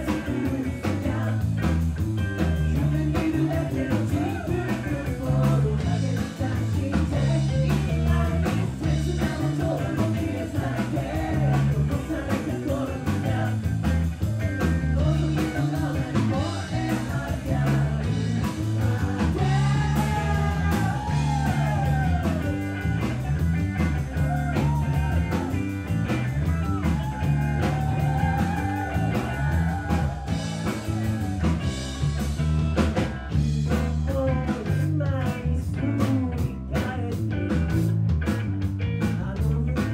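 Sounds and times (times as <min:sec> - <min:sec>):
man singing: 0:00.0 - 0:25.4, 0:26.4 - 0:39.9
drums: 0:00.0 - 0:39.9
electric bass: 0:00.0 - 0:39.9
electric guitar: 0:00.0 - 0:39.9.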